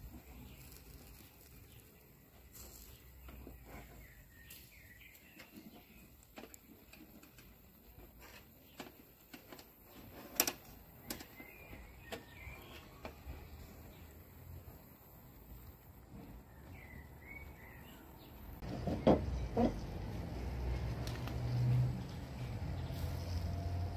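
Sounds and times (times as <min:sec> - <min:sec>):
birds chirping faintly: 0:00.0 - 0:23.8
skewers crackling over charcoal: 0:00.0 - 0:23.9.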